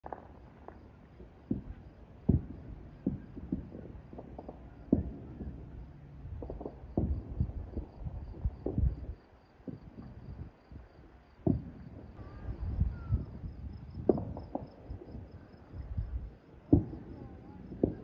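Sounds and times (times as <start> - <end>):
distant fireworks booms and pops: 0.0 - 18.0.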